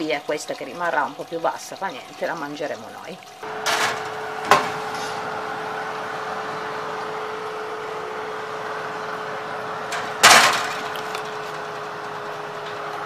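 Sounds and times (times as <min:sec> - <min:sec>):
oven humming: 0:00.0 - 0:13.0.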